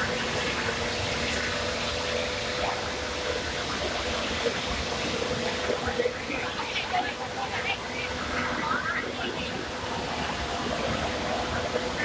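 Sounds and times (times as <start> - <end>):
boiler machinery roaring hiss: 0.0 - 12.0
faint steady hum: 0.0 - 12.0.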